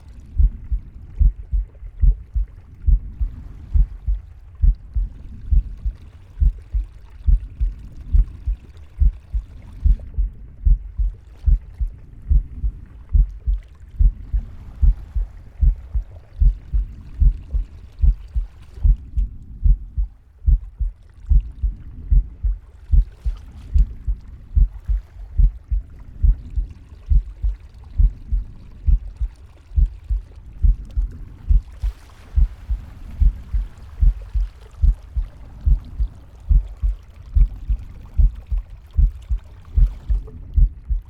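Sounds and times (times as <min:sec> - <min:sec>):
heartbeat thumps: 0:00.3 - 0:41.0.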